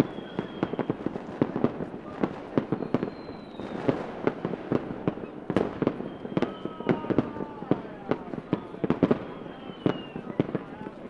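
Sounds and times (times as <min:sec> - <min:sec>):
firework whistle: 0:00.0 - 0:11.0
fireworks bangs: 0:00.0 - 0:11.0.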